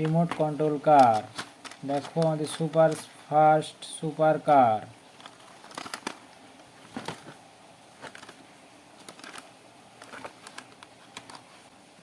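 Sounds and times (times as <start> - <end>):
faint clicks and rustles: 0.0 - 3.2, 5.1 - 11.7.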